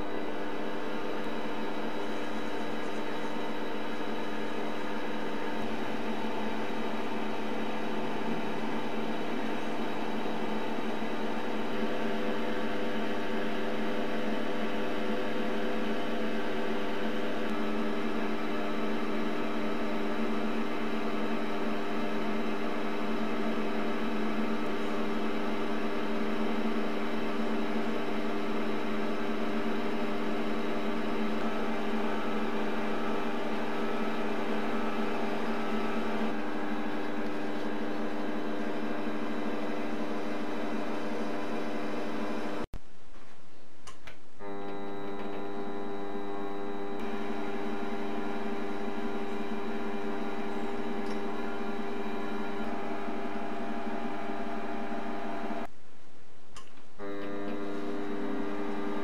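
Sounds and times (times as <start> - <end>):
lathe motor and gear whine: 0.0 - 42.6, 44.4 - 55.7, 57.0 - 59.0.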